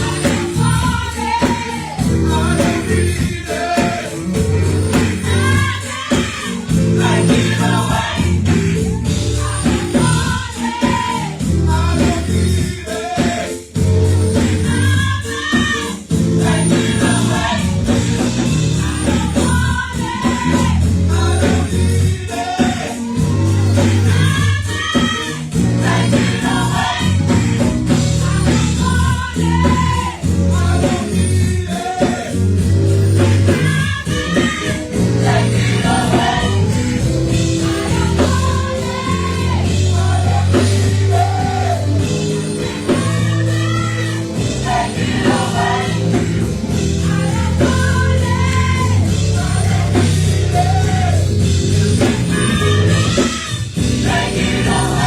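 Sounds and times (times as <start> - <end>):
bass line: 0.0 - 55.0
choir singing with lead vocalist: 0.0 - 55.0
live band: 0.0 - 55.0.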